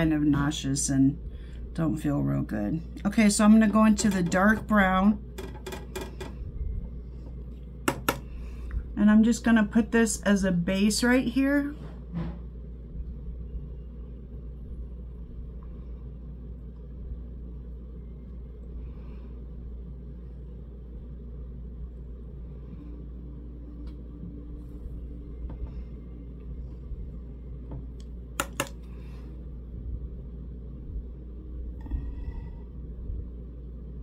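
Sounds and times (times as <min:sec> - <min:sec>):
steady low rumble: 0:00.0 - 0:34.0.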